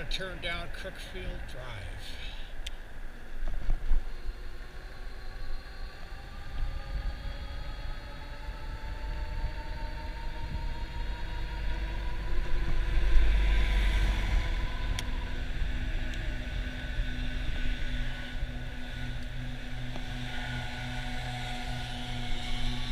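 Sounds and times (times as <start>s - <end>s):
wind rumble on microphone: 2.6s - 22.9s
electric bike motor whining: 3.1s - 22.9s.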